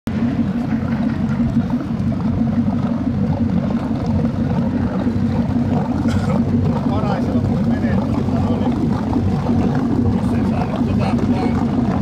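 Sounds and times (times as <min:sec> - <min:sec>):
boat engine idling: 0:00.1 - 0:12.0.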